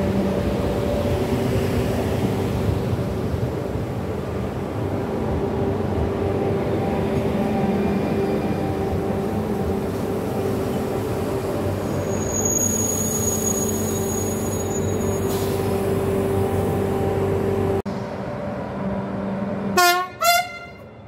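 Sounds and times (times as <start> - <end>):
train rolling past: 0.0 - 21.0.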